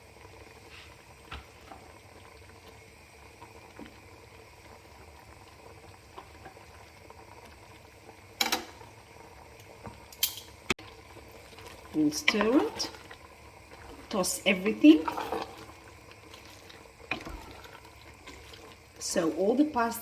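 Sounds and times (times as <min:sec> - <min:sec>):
sauce bubbling in a pot: 0:00.0 - 0:20.0.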